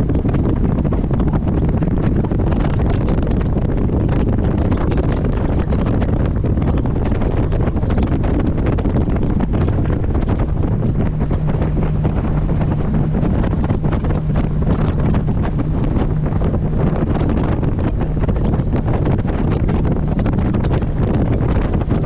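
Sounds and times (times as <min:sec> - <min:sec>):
boat engine hum: 0:00.0 - 0:22.0
wind buffeting microphone: 0:00.0 - 0:22.0.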